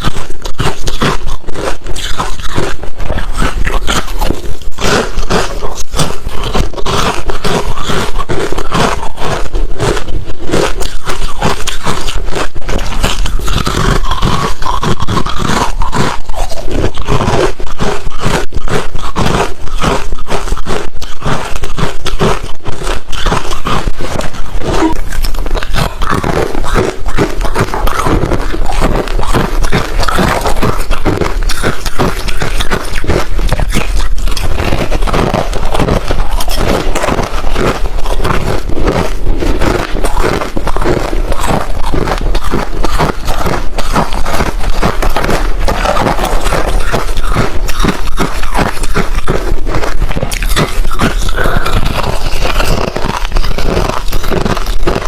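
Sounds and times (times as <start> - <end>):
chewing crunching ice: 0.0 - 55.0.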